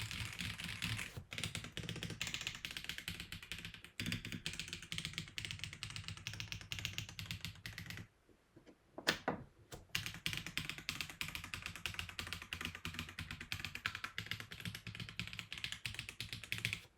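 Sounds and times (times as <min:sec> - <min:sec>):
fast typing on keyboard: 0:00.0 - 0:08.1, 0:09.9 - 0:16.9.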